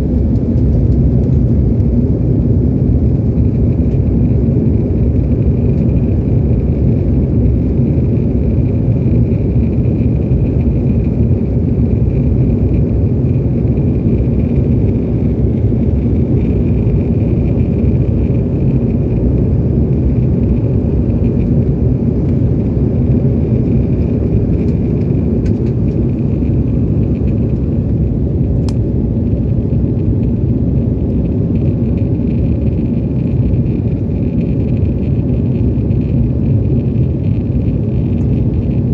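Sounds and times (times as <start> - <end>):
airliner cabin rumble: 0.0 - 38.9
faint jet engine whine: 0.0 - 38.9.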